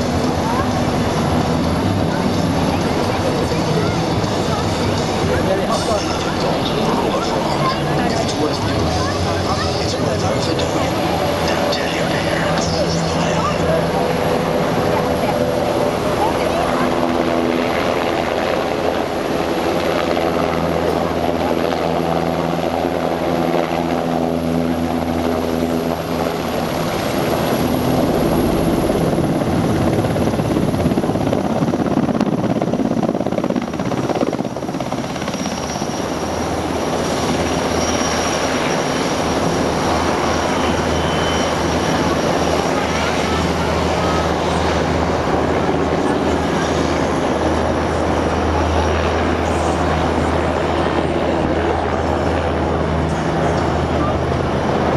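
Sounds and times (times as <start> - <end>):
helicopter rotor and engines: 0.0 - 54.9.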